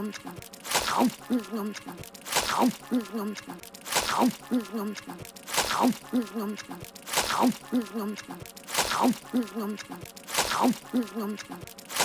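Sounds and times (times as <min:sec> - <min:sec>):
muffled closed-mouth voice sounds: 0:00.0 - 0:00.4, 0:01.0 - 0:06.9, 0:07.5 - 0:11.7
wet squelching chomp: 0:00.2 - 0:12.0.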